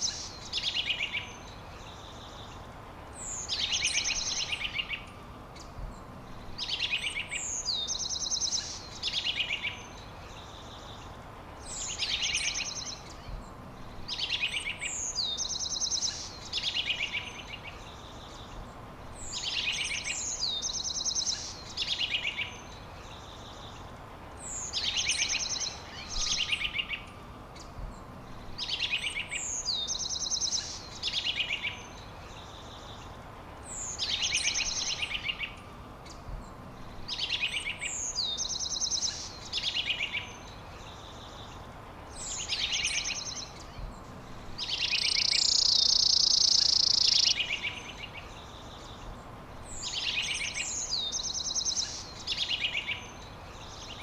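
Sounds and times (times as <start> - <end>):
songbird singing trills: 0.0 - 54.0.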